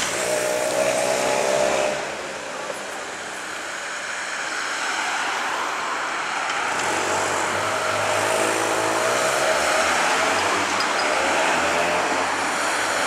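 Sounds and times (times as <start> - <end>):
cars driving past: 0.0 - 13.0
tyres on road: 0.0 - 13.0.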